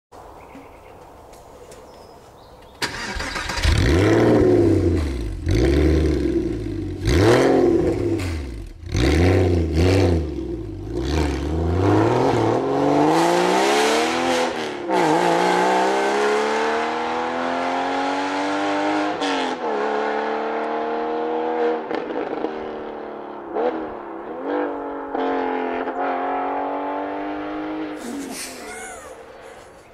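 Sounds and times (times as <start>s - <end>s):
car engine revving and accelerating: 2.8s - 28.4s.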